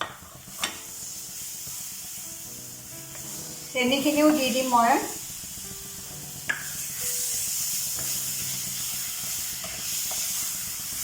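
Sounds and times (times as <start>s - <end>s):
mixture sizzling in a pan: 0.0s - 11.0s.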